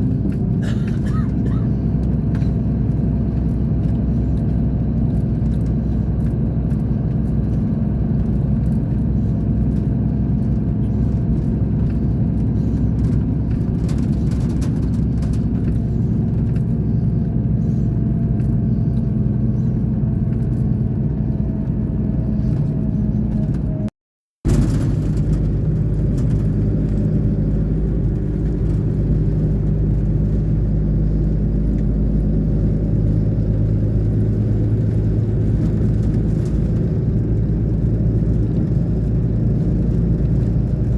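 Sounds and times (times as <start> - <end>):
bus engine rumbling: 0.0 - 40.9.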